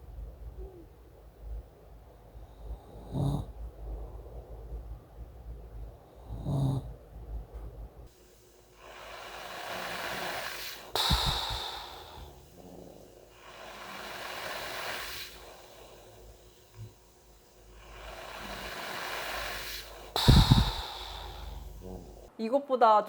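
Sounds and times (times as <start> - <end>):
snoring snort: 0.0 - 5.0, 5.7 - 7.2, 8.8 - 22.3
heavy breathing through mask: 0.0 - 7.4, 8.1 - 22.3.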